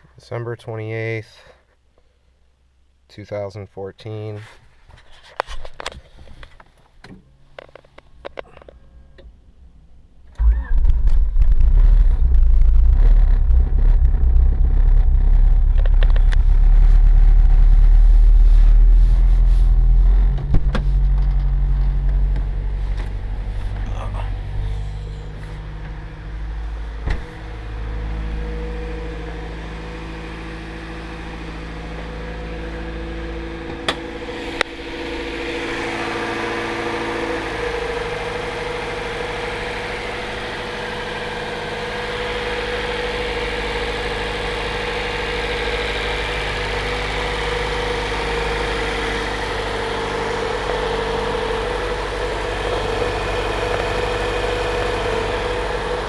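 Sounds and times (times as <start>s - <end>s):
car engine idling: 7.3s - 56.0s.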